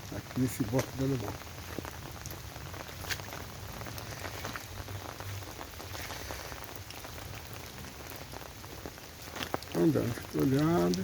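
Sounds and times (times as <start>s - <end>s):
light rain falling: 0.0s - 11.0s.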